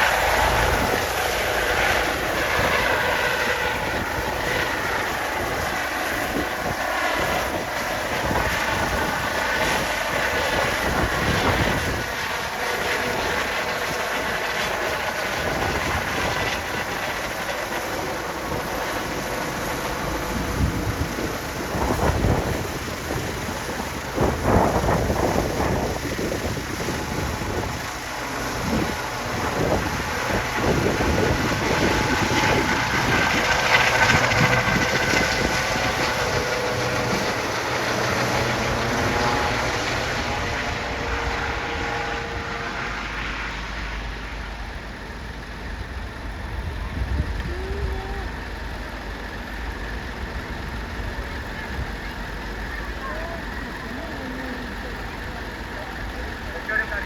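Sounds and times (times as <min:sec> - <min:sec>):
wind buffeting microphone: 0:00.0 - 0:42.7, 0:44.8 - 0:57.0
helicopter turbine whine and rotor: 0:00.0 - 0:57.0.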